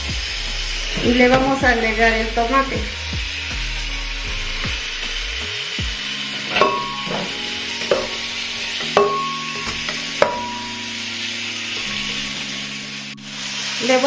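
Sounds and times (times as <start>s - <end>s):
ribs sizzling in fat: 0.0s - 14.0s.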